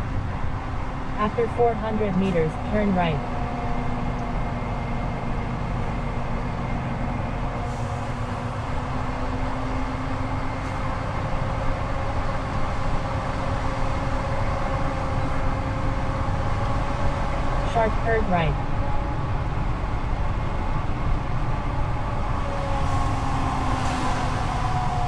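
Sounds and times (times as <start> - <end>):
truck diesel engine running: 0.0 - 22.6
road noise: 0.0 - 25.0.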